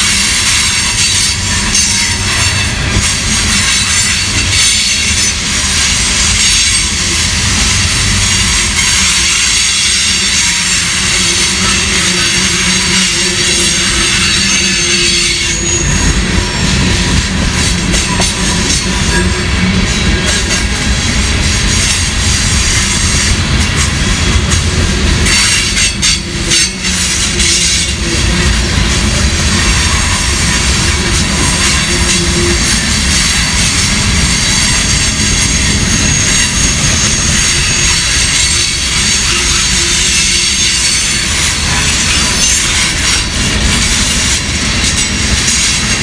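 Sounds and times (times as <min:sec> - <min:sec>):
high wheel squeal: 0:00.0 - 0:46.0
train wheels rumbling on rail: 0:00.0 - 0:46.0.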